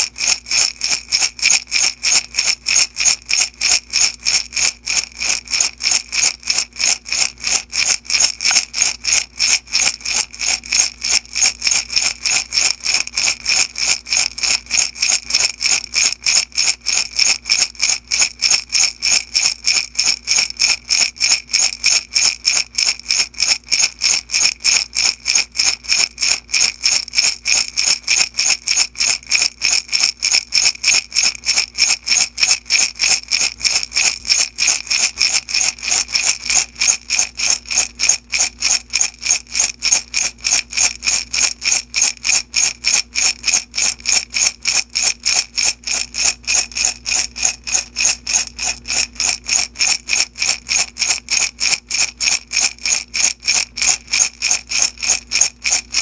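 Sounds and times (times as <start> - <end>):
beads rattling in a glass jar: 0.0 - 56.0.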